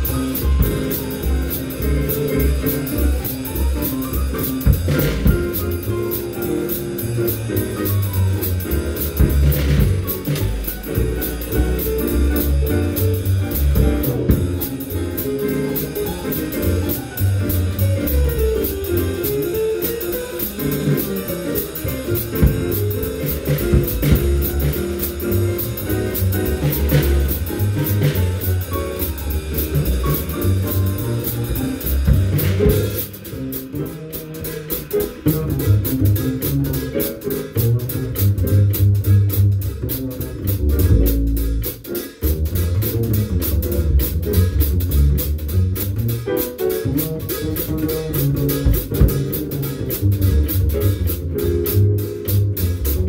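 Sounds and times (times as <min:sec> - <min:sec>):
drum kit played with sticks: 0:00.0 - 0:53.0
keyboard piano: 0:00.0 - 0:53.0
plucked upright bass: 0:00.0 - 0:53.0.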